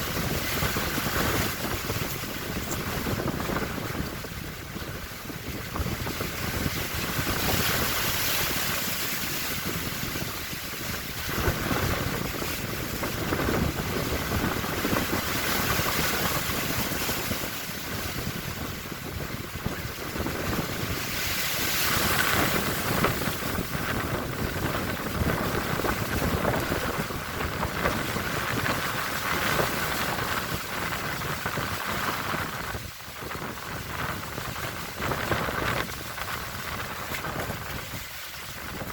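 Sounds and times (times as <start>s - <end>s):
strong wind buffeting microphone: 0.0s - 38.9s
waves washing: 0.0s - 38.9s.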